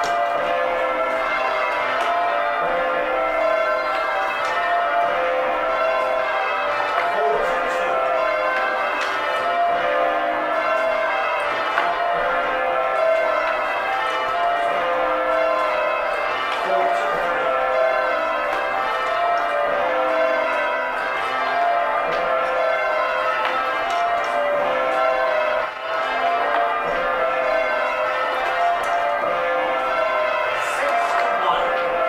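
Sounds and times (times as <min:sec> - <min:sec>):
church bells ringing: 0:00.0 - 0:32.0.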